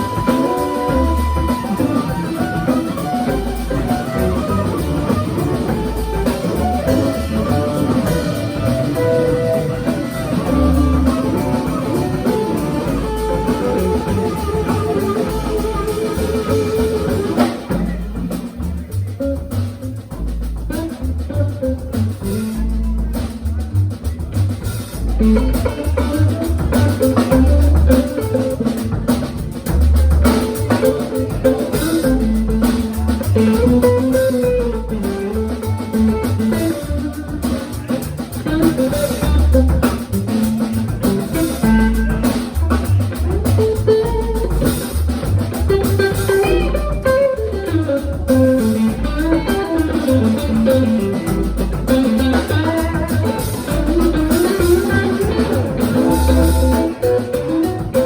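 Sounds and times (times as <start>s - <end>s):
electric guitar lines: 0.0s - 58.0s
rock band playing: 0.0s - 58.0s.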